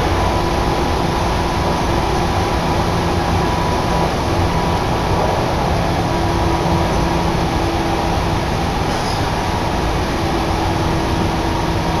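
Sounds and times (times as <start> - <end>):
train running noise from inside: 0.0 - 12.0.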